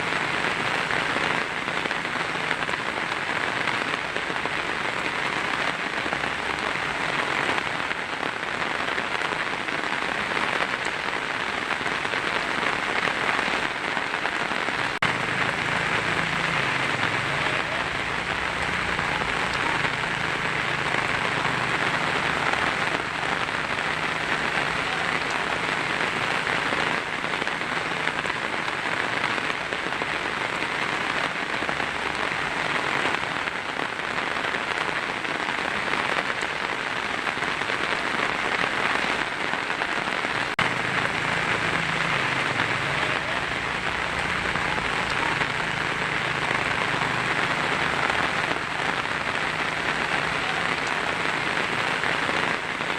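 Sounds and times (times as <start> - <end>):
heavy rain on a tin roof: 0.0 - 52.9.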